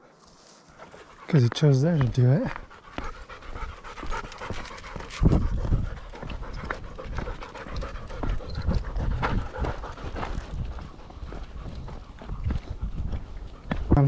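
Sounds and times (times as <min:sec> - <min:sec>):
dog panting: 0:00.5 - 0:13.9.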